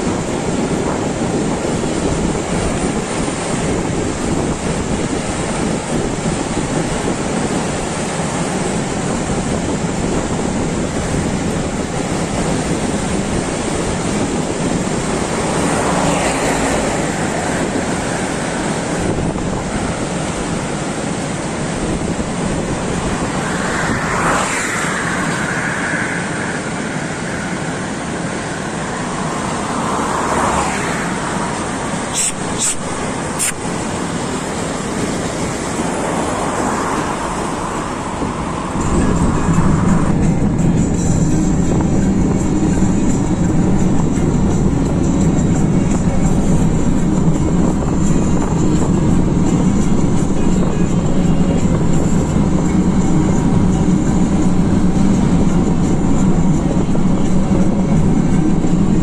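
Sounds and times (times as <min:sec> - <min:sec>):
freight train rumbling past: 0:00.0 - 0:59.0
wind on microphone: 0:00.0 - 0:59.0
high whines: 0:09.6 - 0:59.0.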